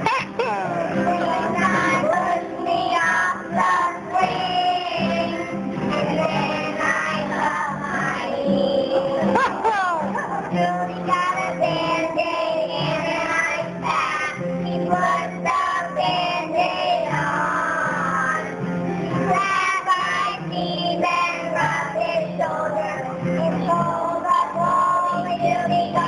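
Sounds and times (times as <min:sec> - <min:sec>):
children singing together: 0:00.0 - 0:26.0.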